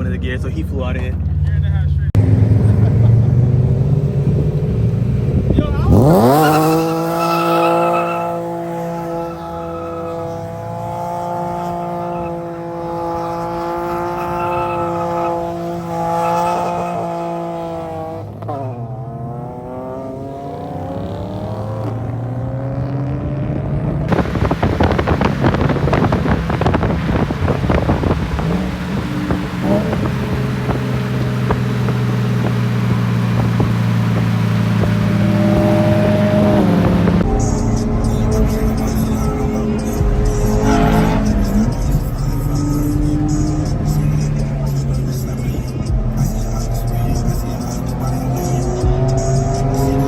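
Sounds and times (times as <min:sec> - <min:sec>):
car engine running: 0:00.0 - 0:50.0
engine crackling: 0:00.0 - 0:50.0.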